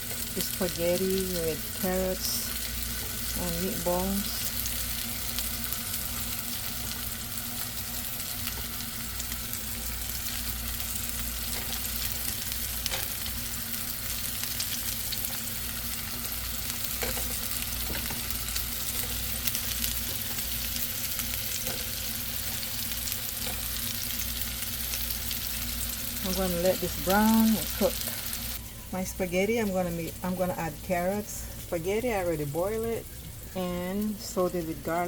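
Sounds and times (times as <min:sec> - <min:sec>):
meatballs sizzling in oil: 0:00.0 - 0:28.7
low steady hum: 0:00.0 - 0:35.0.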